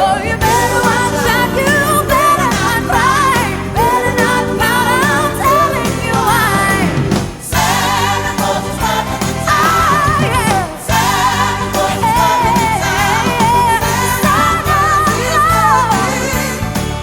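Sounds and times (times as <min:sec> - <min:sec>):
song with sung vocals: 0:00.0 - 0:17.0.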